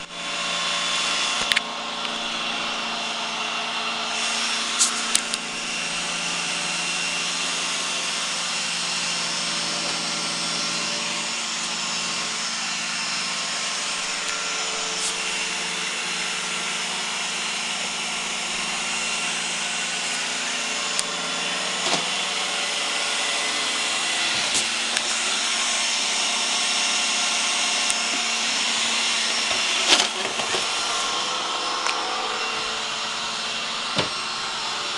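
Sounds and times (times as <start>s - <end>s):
robot vacuum whirring: 0.0s - 34.9s.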